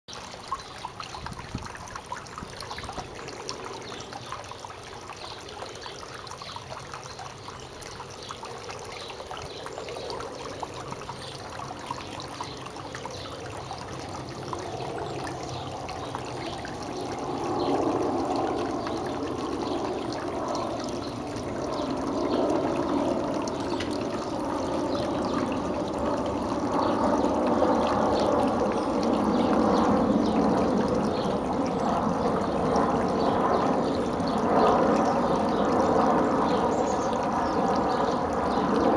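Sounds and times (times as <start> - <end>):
water trickling over stones: 0.0 - 38.9.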